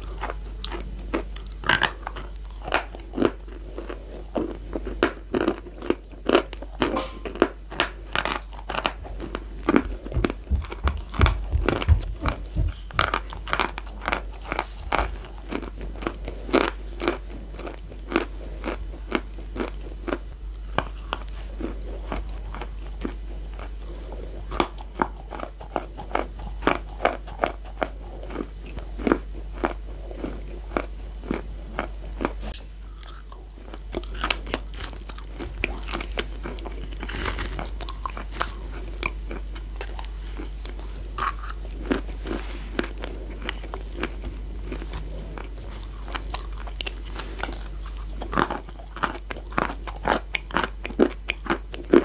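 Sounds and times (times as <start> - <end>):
person crunching and chewing: 0.0 - 52.0.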